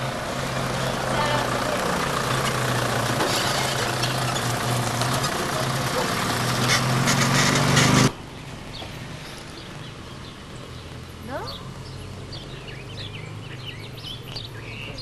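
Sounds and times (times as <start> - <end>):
car engine running: 0.0 - 15.0
road noise: 0.0 - 15.0.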